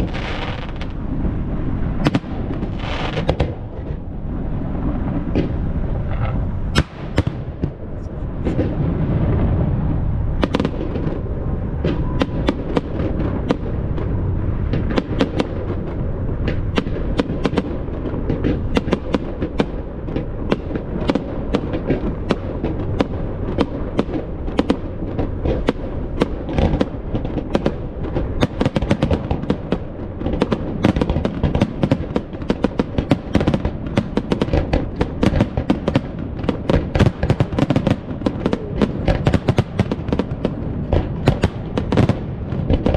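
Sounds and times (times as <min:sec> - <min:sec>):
fireworks cracks and bangs: 0:00.0 - 0:42.9
low rumble of booming shells: 0:00.0 - 0:42.9.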